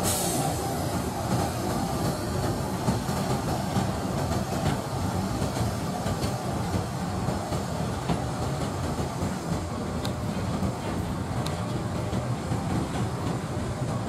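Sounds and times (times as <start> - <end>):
locomotive engine rumble: 0.0 - 14.0
wheels clicking over rails: 0.0 - 14.0.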